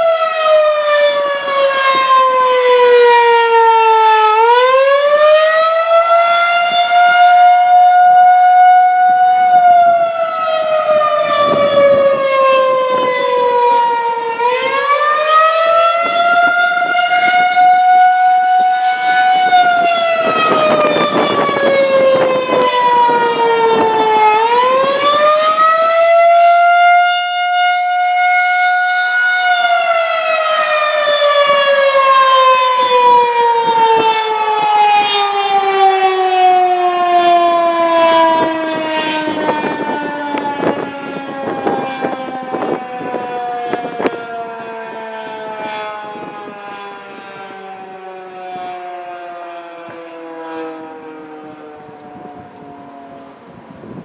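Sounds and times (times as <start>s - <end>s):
warning siren wailing: 0.0s - 54.0s.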